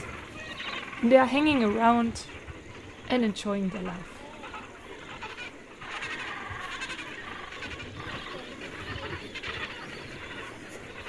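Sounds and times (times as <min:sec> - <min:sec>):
penguins calling: 0:00.0 - 0:11.0.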